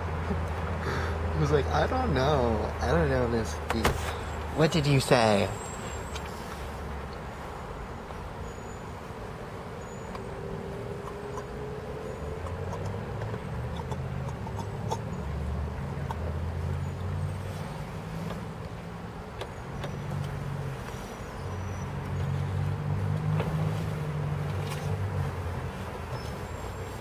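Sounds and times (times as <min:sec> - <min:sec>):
car engine humming: 0:00.0 - 0:27.0.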